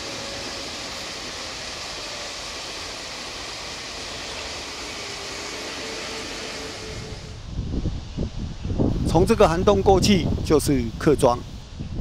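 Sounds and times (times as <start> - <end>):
distant train rumbling past: 0.0 - 10.5.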